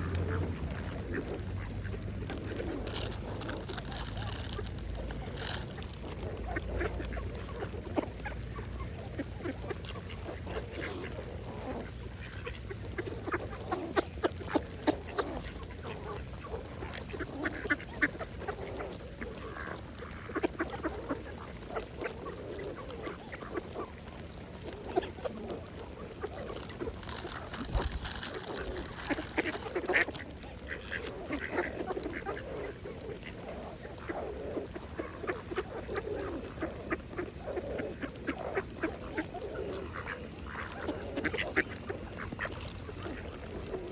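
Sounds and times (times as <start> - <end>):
ducks pecking clicks: 0.0 - 43.9
ducks quacking and chattering: 0.0 - 43.9.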